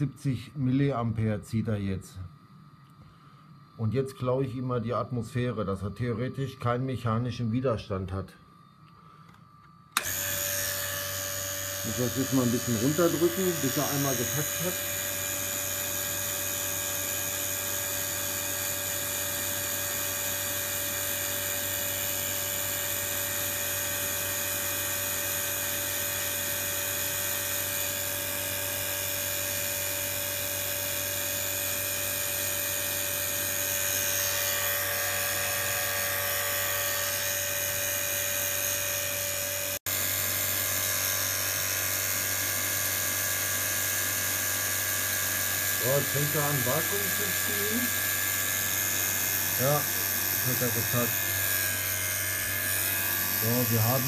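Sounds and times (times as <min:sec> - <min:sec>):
vacuum pump hum and whine: 0:00.0 - 0:54.0.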